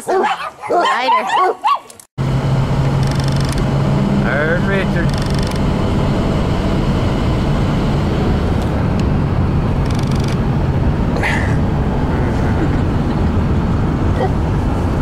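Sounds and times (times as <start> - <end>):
boat motor running: 2.2 - 15.0.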